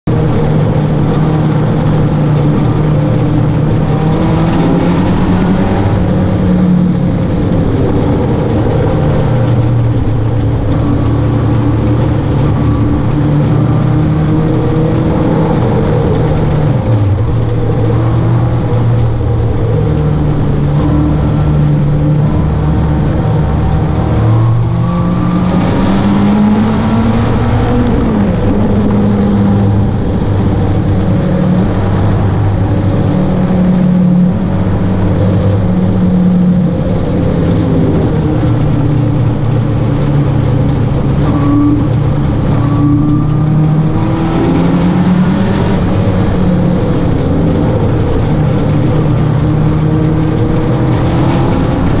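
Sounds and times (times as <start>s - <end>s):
road noise: 0.0s - 52.0s
sports car engine: 0.0s - 52.0s
wind noise: 0.0s - 52.0s.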